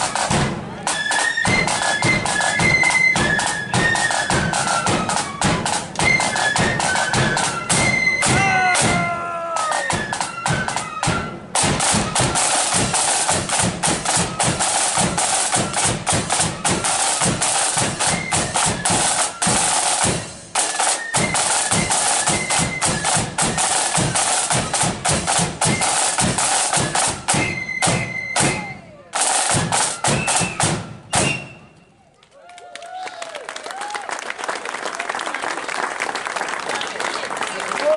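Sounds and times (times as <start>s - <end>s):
drum roll: 0.0s - 31.6s
snare and bass drums: 0.0s - 31.8s
flutes playing: 0.0s - 32.2s.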